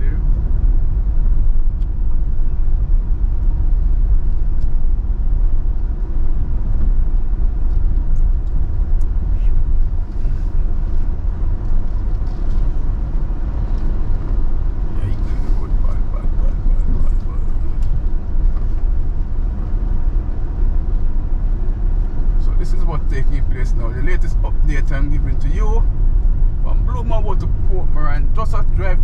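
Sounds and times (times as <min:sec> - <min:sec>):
car rumbling over rough dirt road: 0:00.0 - 0:29.0.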